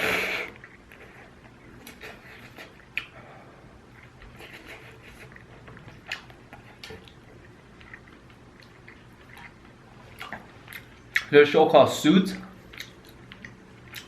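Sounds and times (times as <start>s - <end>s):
person chewing noodles: 0.0s - 11.3s, 12.5s - 14.0s.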